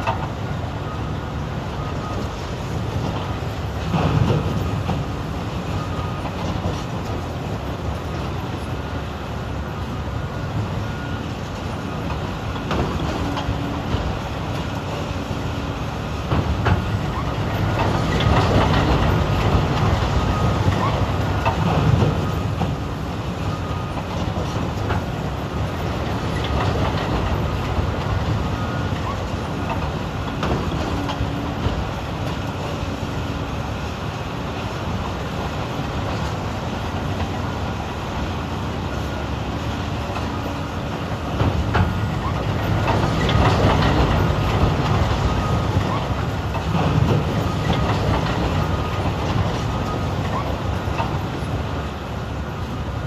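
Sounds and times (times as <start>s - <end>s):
excavator diesel engines under load: 0.0s - 53.0s
trucks idling: 0.0s - 53.0s.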